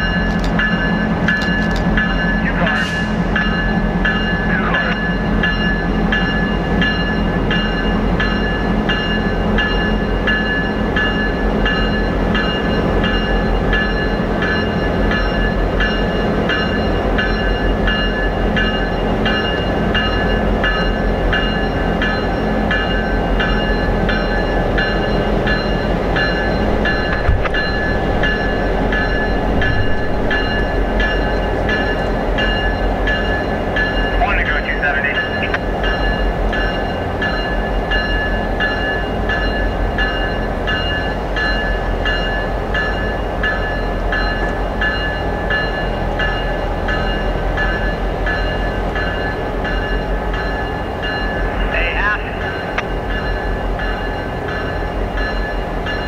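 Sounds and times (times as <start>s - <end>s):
diesel locomotive engine rumble: 0.0s - 56.0s
locomotive bell ringing: 0.0s - 56.0s.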